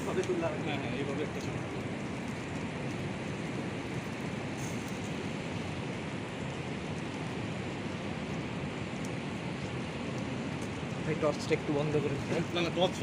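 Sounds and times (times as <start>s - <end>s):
faint crackles: 0.0s - 13.0s
food sizzling on a grill: 0.0s - 13.0s.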